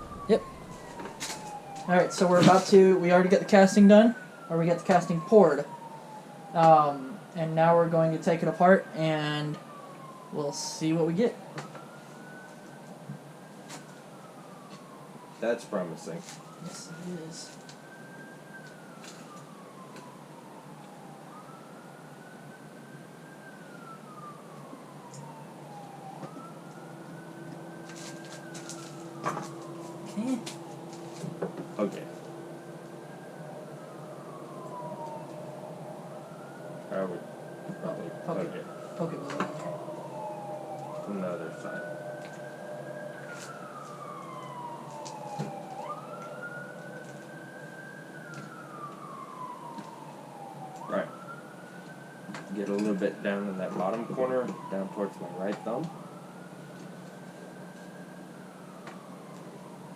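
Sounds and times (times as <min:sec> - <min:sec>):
faint emergency vehicle siren wailing: 0:00.0 - 0:59.9.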